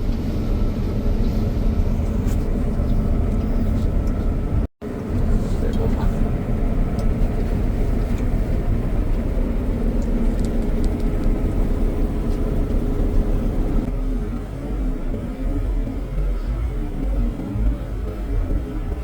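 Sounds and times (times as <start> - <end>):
combine harvester rumbling: 0.0 - 19.0.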